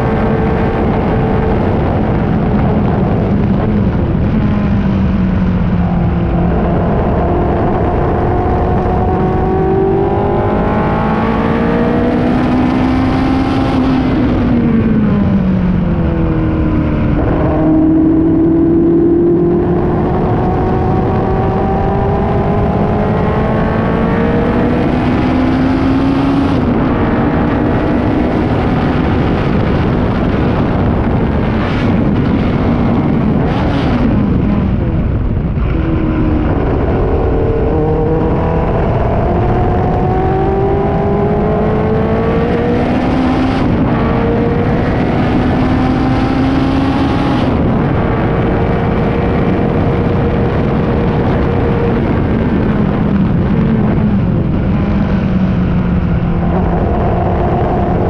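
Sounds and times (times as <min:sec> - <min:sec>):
racing car engine at full throttle: 0:00.0 - 0:58.0.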